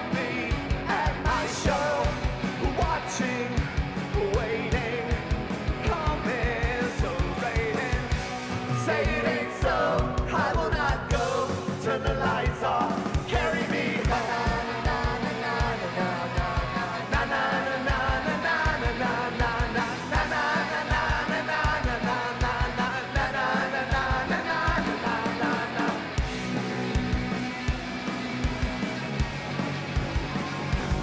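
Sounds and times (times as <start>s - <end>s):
sung vocals: 0.0s - 26.9s
drums steady beat: 0.0s - 31.0s
electric guitars: 0.0s - 31.0s.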